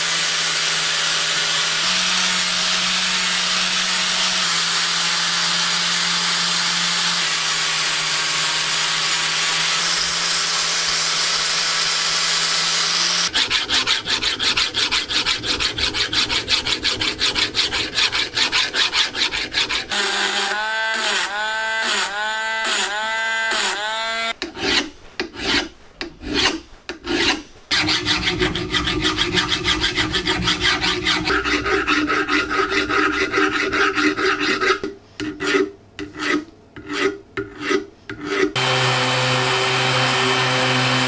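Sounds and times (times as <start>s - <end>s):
angle grinder sanding steel: 0.0s - 24.4s, 27.1s - 34.8s, 38.6s - 41.0s.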